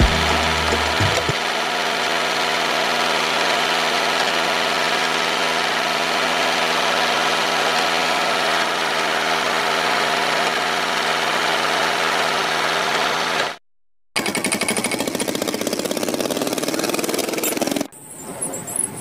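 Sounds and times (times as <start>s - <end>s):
small motor humming: 0.0s - 13.6s, 14.2s - 19.0s.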